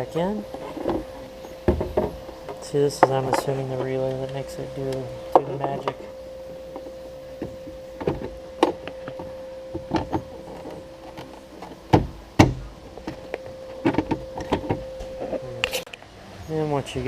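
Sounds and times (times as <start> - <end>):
steady tone: 0.0 - 16.3.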